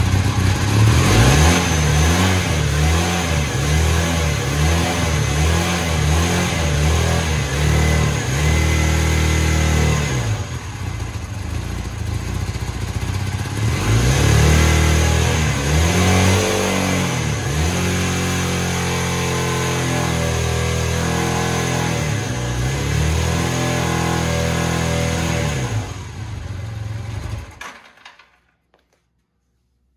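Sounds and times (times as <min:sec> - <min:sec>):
motorcycle engine revving and idling: 0:00.0 - 0:27.8.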